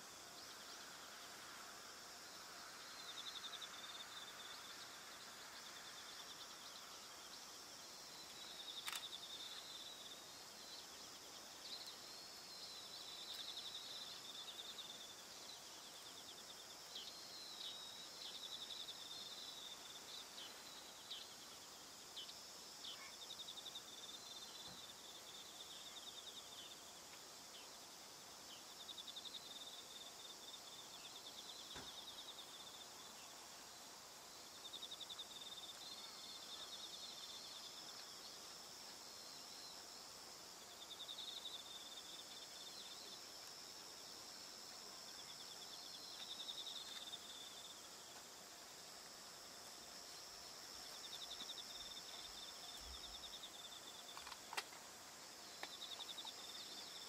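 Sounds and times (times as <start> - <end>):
crickets trilling: 0.0 - 57.0
steady high insect hum: 0.0 - 57.0.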